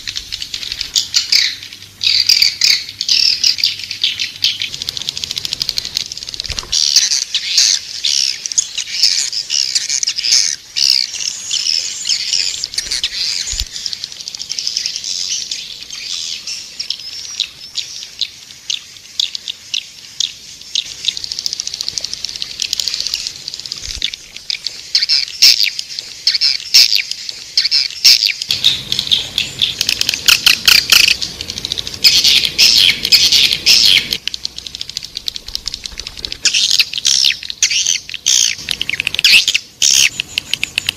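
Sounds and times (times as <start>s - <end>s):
swiftlet chirping and clicks: 1.4s - 15.5s, 19.2s - 40.9s.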